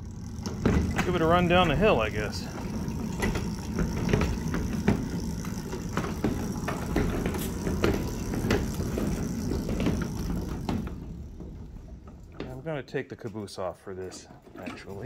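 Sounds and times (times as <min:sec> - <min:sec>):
small locomotive rumbling on track: 0:00.0 - 0:15.0
wheels clicking on rails: 0:00.0 - 0:15.0.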